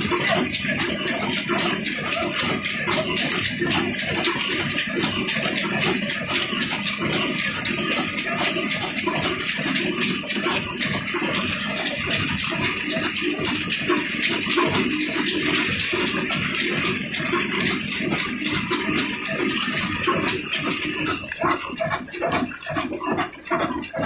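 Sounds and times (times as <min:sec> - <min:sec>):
line-shaft machinery running: 0:00.0 - 0:24.0.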